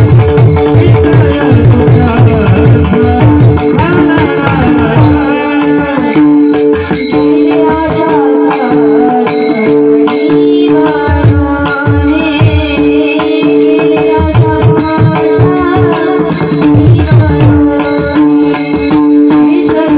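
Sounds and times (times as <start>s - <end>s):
woman singing: 0.6s - 19.9s.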